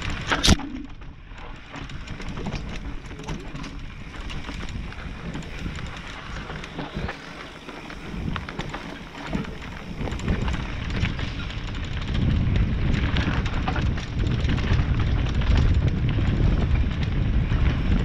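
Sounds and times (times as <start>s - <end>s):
bike rattling: 0.0s - 18.0s
bike tyres crunching over dirt: 0.0s - 18.0s.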